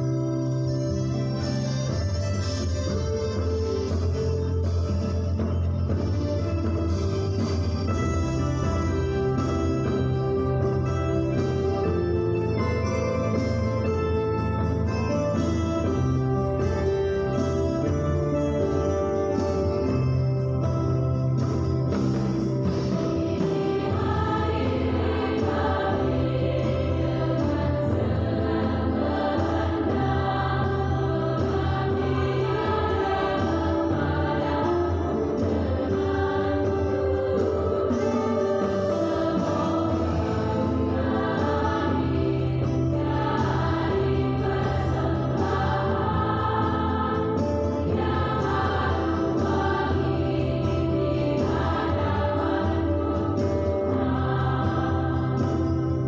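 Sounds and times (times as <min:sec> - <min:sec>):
choir singing church music: 0:00.0 - 0:02.6, 0:03.6 - 0:56.0.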